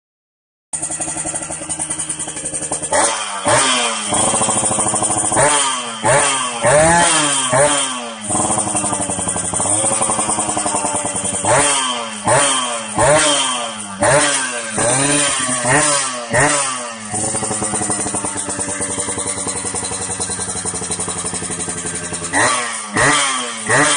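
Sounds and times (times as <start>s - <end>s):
motorcycle engine revving: 0.8s - 23.9s.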